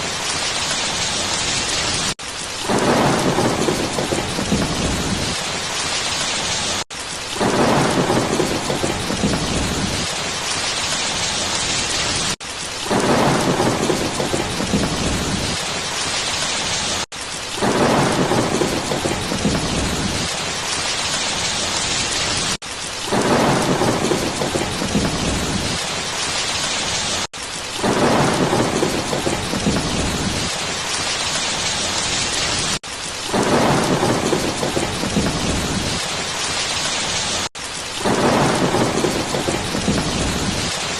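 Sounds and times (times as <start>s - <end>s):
thunder rumbling: 0.0s - 27.2s, 27.8s - 37.4s, 38.0s - 40.9s
heavy rain hiss: 0.0s - 40.9s.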